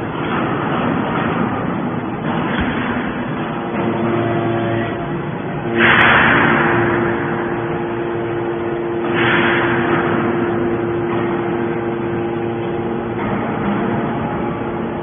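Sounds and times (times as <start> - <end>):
hydraulic pump hum: 0.0 - 15.0.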